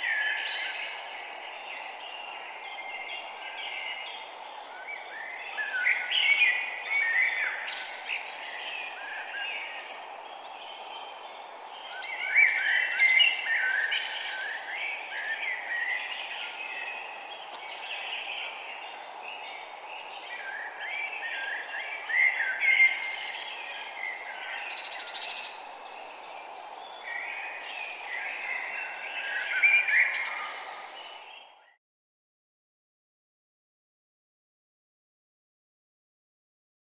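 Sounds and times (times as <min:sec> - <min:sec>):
steady background hiss: 0:00.0 - 0:31.6
birds singing and chirping: 0:00.0 - 0:31.8.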